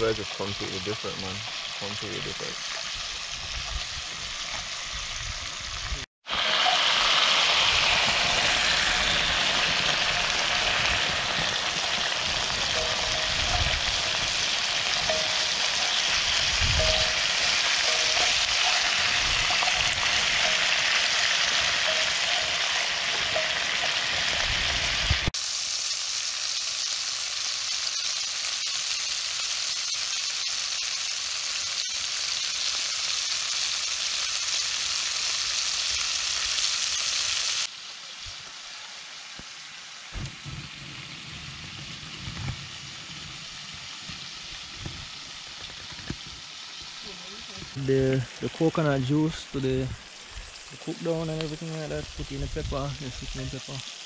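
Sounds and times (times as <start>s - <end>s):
crayfish sizzling in hot oil: 0.0s - 54.0s.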